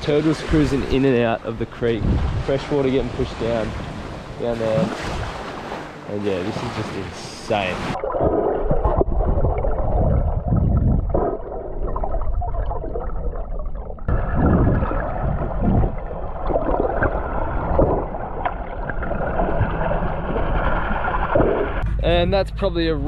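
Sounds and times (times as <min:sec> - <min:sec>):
water noise: 0:00.0 - 0:21.8
low rumble: 0:03.7 - 0:23.0.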